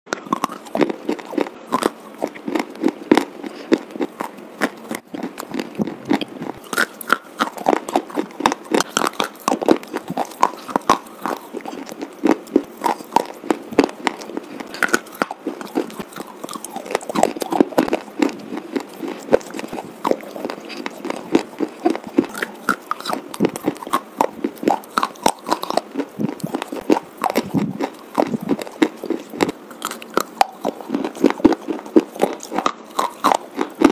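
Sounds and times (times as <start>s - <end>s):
slate pencils being chewed: 0.1s - 33.9s.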